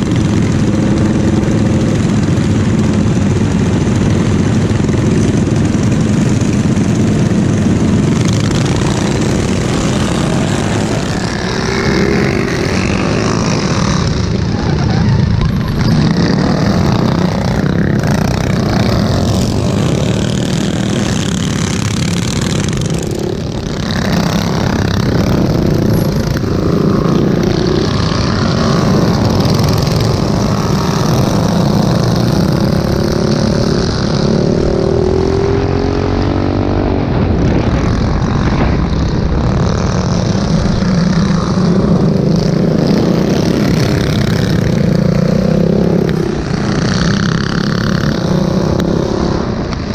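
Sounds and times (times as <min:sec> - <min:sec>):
mini bike engines revving: 0:00.0 - 0:49.9.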